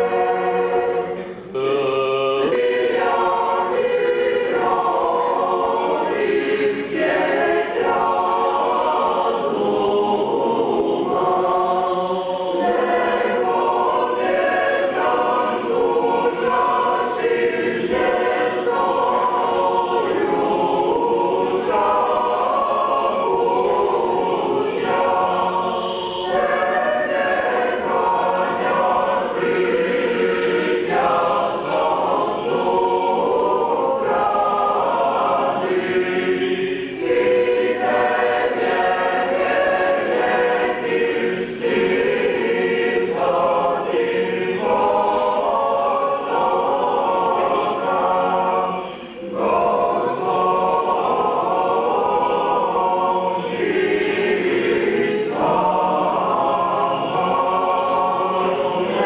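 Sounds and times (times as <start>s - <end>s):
choir chanting unaccompanied: 0.0s - 59.0s.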